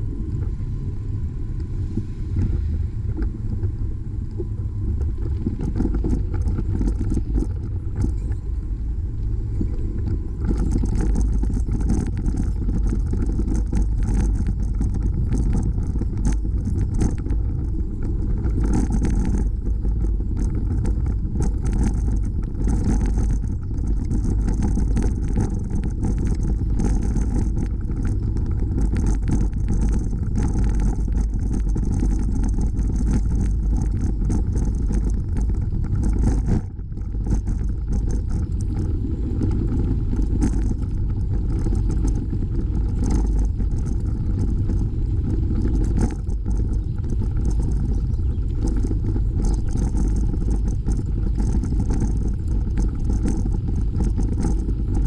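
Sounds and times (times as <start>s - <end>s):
bicycle tyres on gravel: 0.0s - 55.0s
wind on microphone: 0.0s - 55.0s
bike rattling over bumps: 2.3s - 55.0s.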